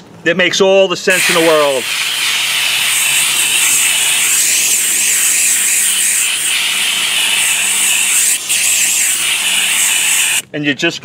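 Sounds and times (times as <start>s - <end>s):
steam cleaner hissing: 1.1s - 10.4s.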